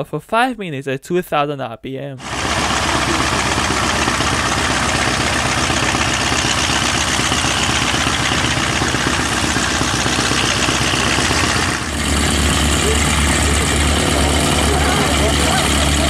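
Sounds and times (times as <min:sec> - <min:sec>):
aircraft engine idling: 0:02.2 - 0:16.0.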